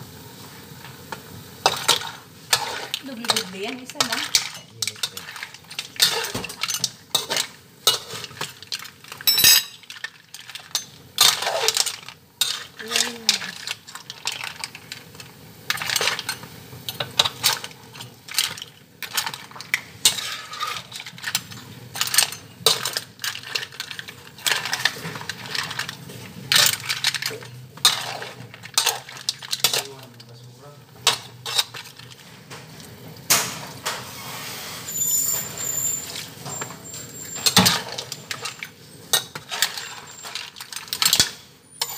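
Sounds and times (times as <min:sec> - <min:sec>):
metal utensil scraping pan: 0:01.6 - 0:30.2, 0:31.0 - 0:41.9.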